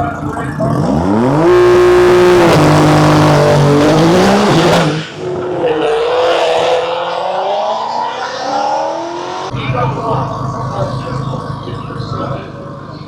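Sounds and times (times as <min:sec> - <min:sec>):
cars accelerating hard: 0:00.0 - 0:13.0.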